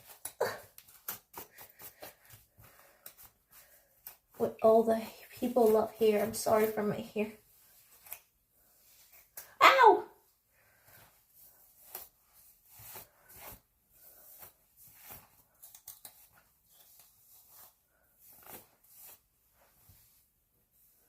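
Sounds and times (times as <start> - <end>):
brush rustling through hair: 0.0 - 9.6, 10.7 - 21.0.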